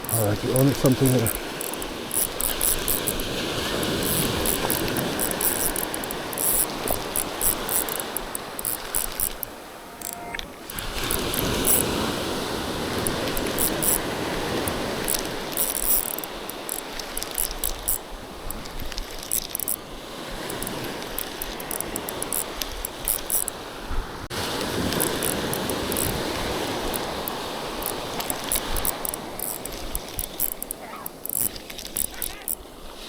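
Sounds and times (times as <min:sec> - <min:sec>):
fishing reel clicking and whirring: 0:00.0 - 0:23.6, 0:24.6 - 0:32.6.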